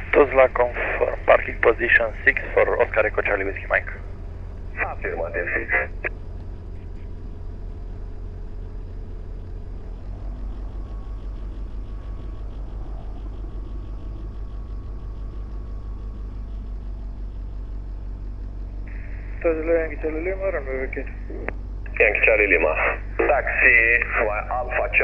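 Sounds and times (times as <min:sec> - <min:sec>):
aircraft piston engine drone: 0:00.0 - 0:25.0.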